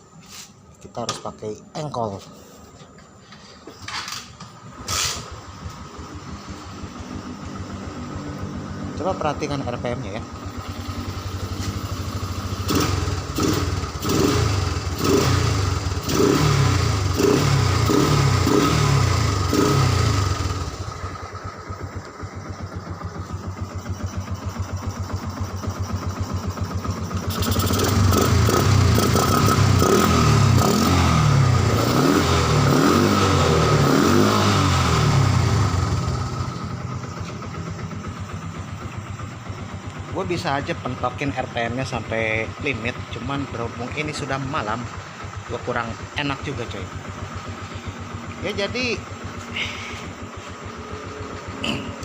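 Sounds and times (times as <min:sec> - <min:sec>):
motorcycle engine idling: 0:02.4 - 0:31.8, 0:34.6 - 0:52.0
motorcycle engine revving: 0:03.3 - 0:52.0.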